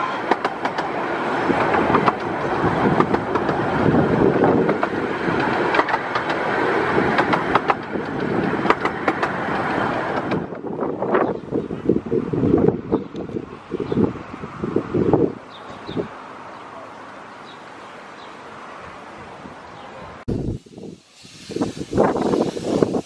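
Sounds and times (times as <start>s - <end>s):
train carriage rolling rumble: 0.0s - 16.4s, 18.5s - 23.0s.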